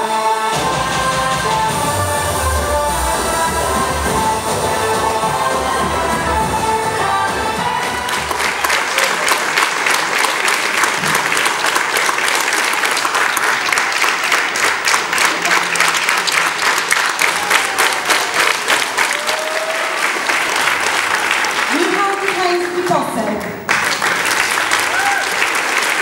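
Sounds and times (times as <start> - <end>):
audience applauding: 3.2 - 26.0.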